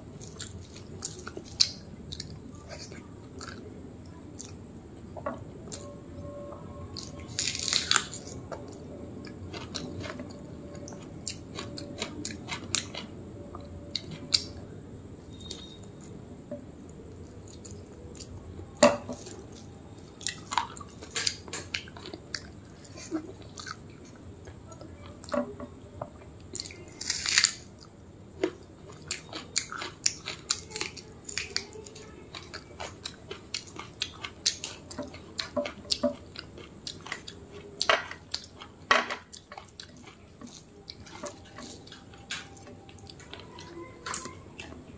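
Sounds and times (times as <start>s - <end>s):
low steady hum: 0.0s - 44.9s
person chewing food: 0.2s - 6.0s, 6.9s - 14.6s, 16.9s - 25.4s, 26.2s - 44.9s.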